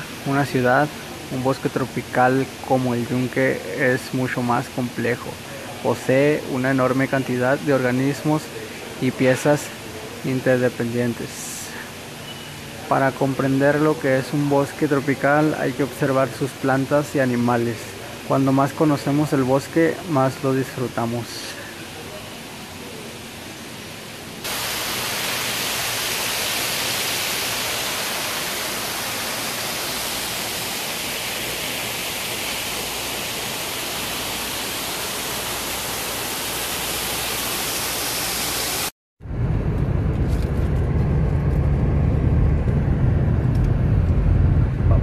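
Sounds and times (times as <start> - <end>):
loud steady hiss: 0.0 - 38.9.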